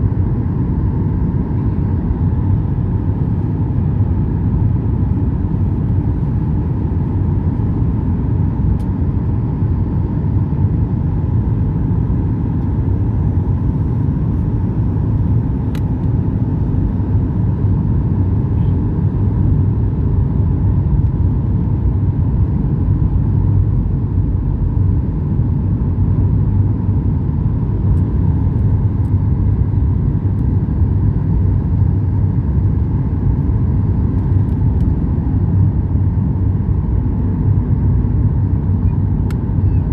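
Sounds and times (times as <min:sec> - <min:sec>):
constant hum: 0:00.0 - 0:39.9
jet engine rumble: 0:00.0 - 0:39.9.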